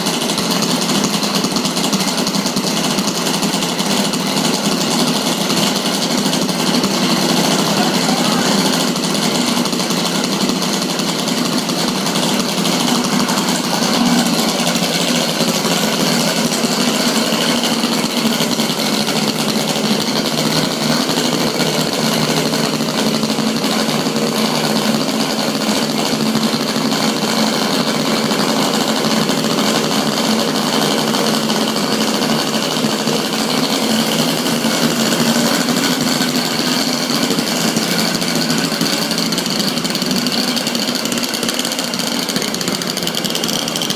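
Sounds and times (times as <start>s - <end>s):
small gasoline engine running: 0.0s - 43.9s.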